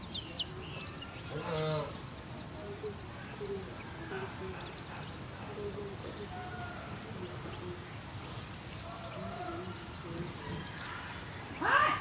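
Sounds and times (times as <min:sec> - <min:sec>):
loud sharp bird calls: 0:00.0 - 0:12.0
soft low bird calls: 0:00.0 - 0:12.0.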